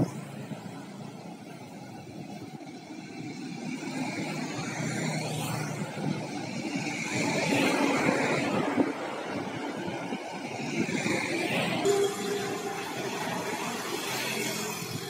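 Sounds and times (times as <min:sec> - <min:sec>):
bus approaching: 0:00.0 - 0:15.0
road traffic passing: 0:00.0 - 0:15.0.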